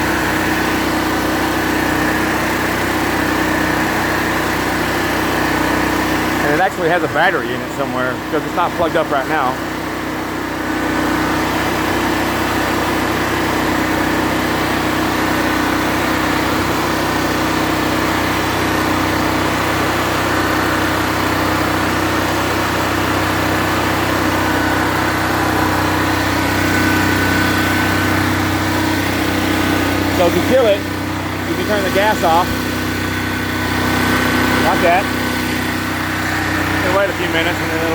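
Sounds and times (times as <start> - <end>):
generator engine running: 0.0 - 37.9.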